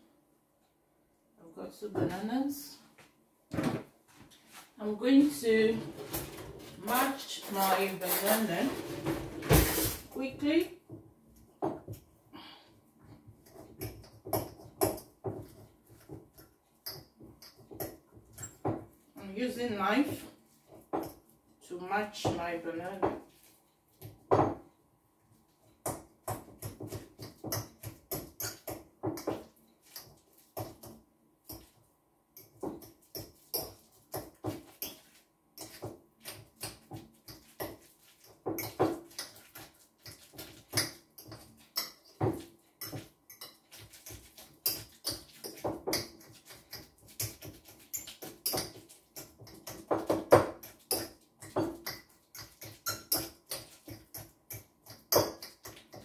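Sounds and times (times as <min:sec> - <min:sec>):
fork mashing banana squelches: 0:10.1 - 0:56.0.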